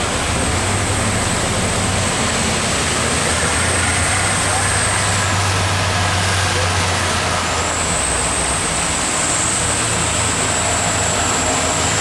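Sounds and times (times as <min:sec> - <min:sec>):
diesel truck engine under load: 0:00.0 - 0:12.0.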